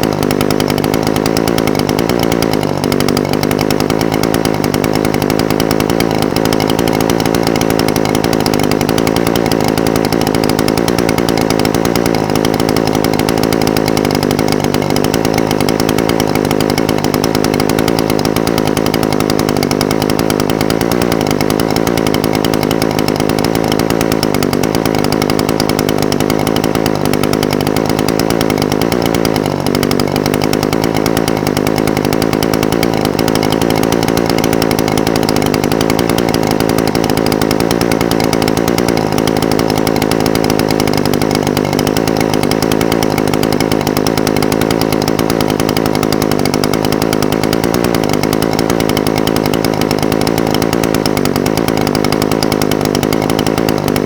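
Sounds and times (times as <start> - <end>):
brush cutter engine idling: 0.0 - 54.0.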